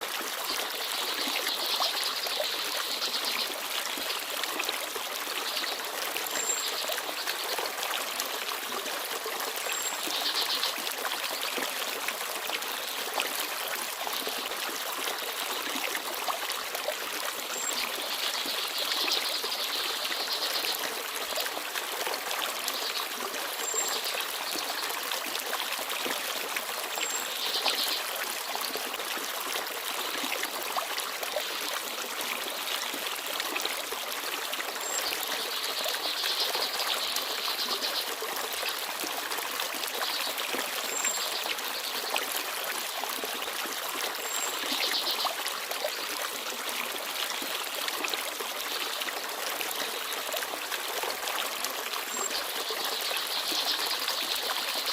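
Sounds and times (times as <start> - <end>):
stream babbling: 0.0 - 54.9.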